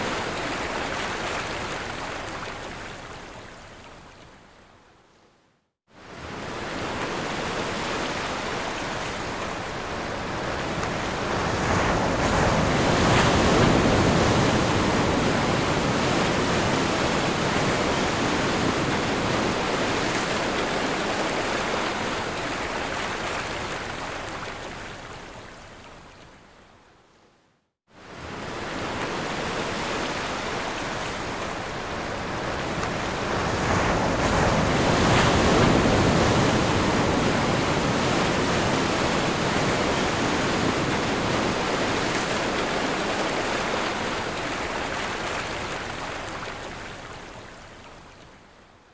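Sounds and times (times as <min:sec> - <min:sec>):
ocean waves washing onto shore: 0:00.0 - 0:04.0, 0:05.9 - 0:26.0, 0:27.9 - 0:48.2.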